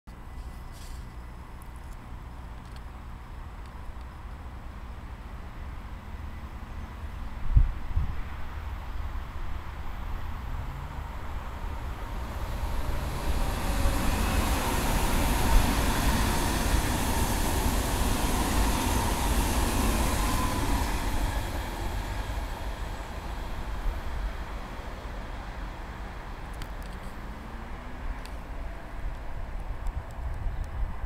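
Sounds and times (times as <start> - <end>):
high-speed train passing: 3.0 - 31.0.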